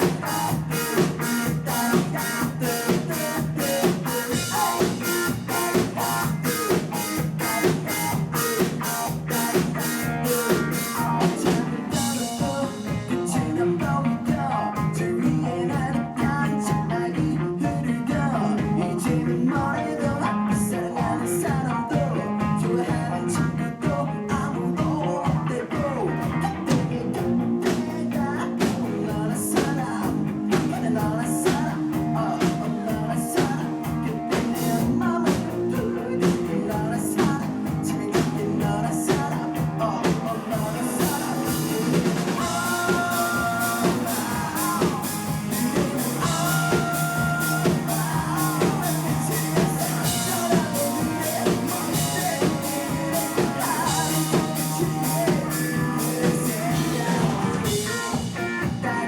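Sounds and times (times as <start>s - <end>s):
drum kit beat: 0.0s - 59.0s
guitars: 0.0s - 59.0s
person singing: 0.0s - 59.0s.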